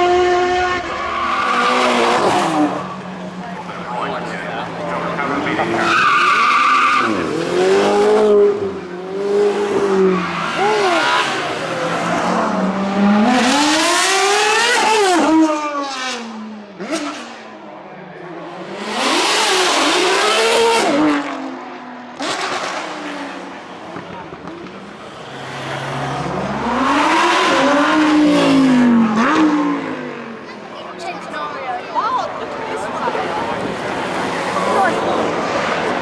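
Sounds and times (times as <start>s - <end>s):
racing car engine revving: 0.0s - 17.6s, 18.2s - 30.7s.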